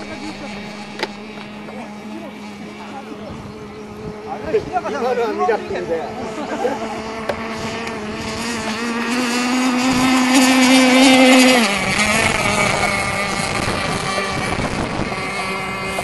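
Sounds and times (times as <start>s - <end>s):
model boat motor whining: 0.0s - 16.0s.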